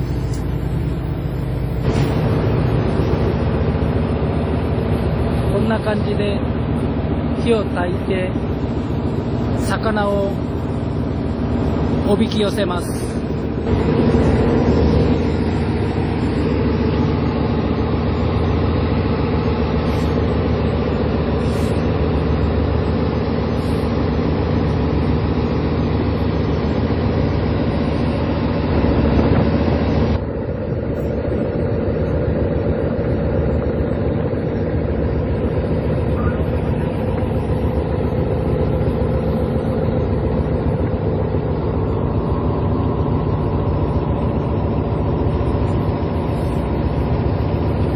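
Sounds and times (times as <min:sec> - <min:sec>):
boat engine humming: 0:00.0 - 0:47.9.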